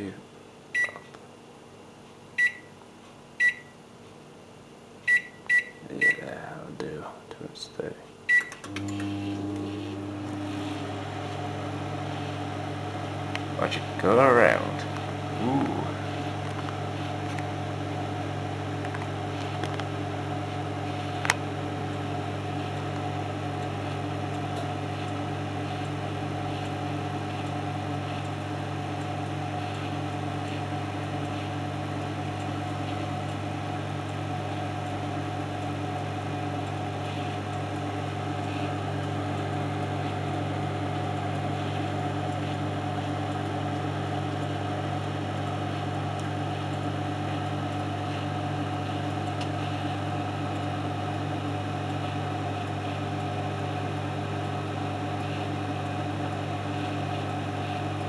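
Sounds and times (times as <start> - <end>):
microwave oven humming: 0.0 - 7.1, 8.1 - 58.0.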